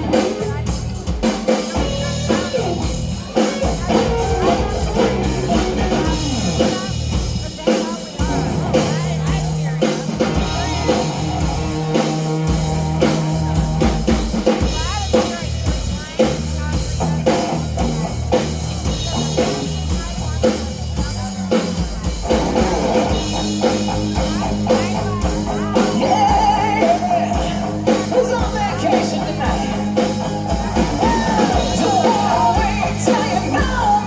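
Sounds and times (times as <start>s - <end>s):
drum kit beat: 0.0s - 34.0s
rock band playing: 0.0s - 34.0s.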